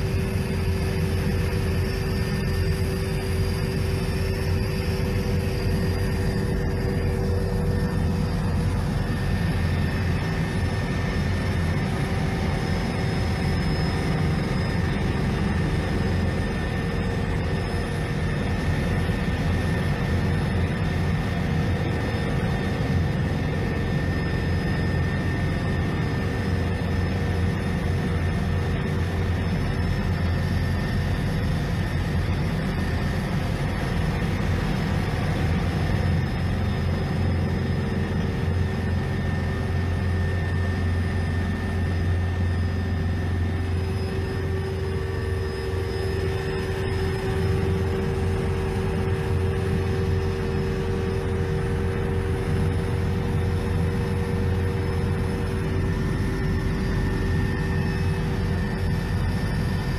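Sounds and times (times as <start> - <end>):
faint whining tones: 0.0 - 59.9
helicopter rotor and engine drone: 0.0 - 59.9.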